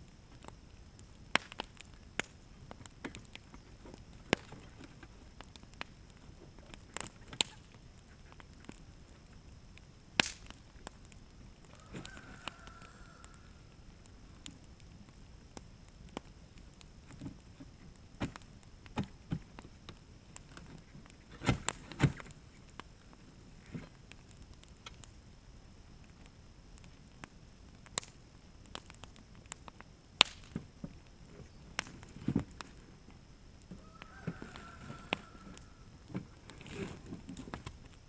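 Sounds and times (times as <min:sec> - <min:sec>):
wood fire popping: 0:00.0 - 0:38.0.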